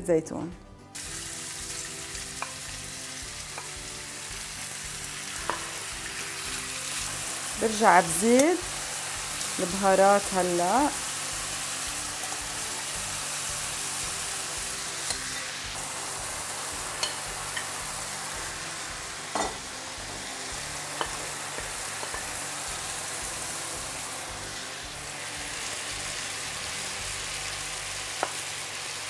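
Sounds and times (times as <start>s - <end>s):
chicken sizzling in frying pan: 1.0s - 29.0s.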